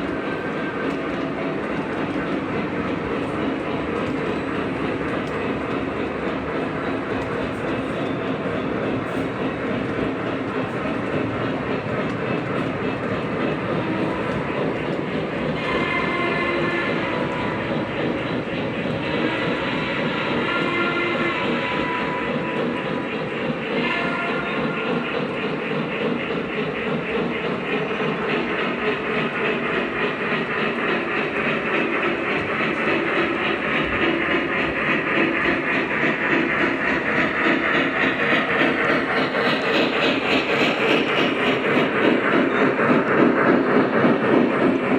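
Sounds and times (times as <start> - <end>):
model train rumbling on track: 0.0 - 44.9.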